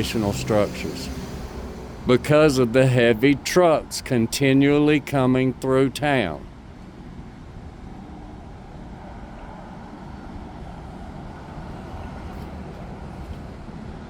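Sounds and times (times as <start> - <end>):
passing vehicle engine and tyres: 0.0 - 14.0
road traffic noise: 0.0 - 14.0.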